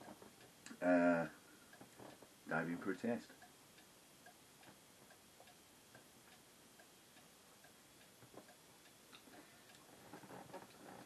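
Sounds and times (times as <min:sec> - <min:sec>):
clock ticking faintly: 0:00.0 - 0:11.0.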